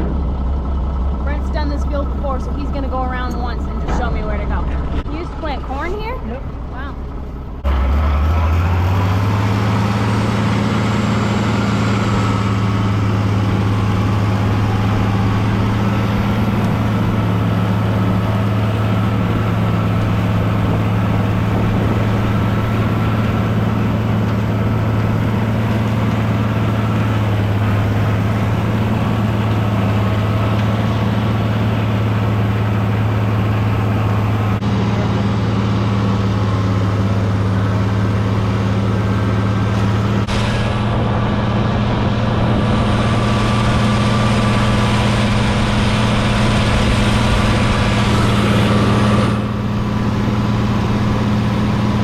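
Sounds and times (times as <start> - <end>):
tractor engine humming: 0.0 - 52.0.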